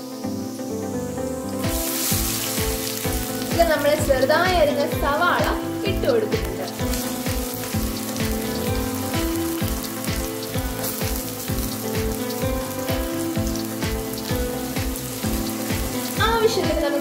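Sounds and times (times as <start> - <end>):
background music with steady beat: 0.0 - 17.0
onions sizzling in oil: 0.0 - 17.0.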